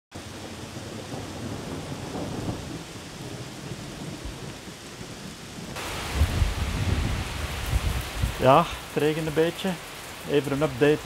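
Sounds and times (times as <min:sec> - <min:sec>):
rain on foliage: 0:00.1 - 0:11.0.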